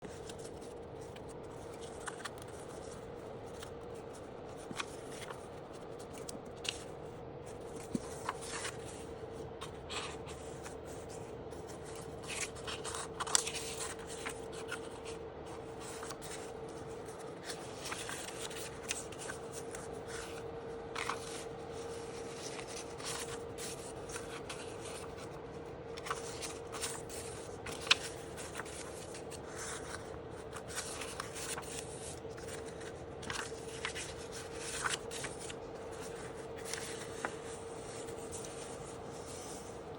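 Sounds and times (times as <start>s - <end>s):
paper rustling and sliding: 0.0s - 25.4s, 26.0s - 39.8s
steady hum: 0.0s - 39.9s.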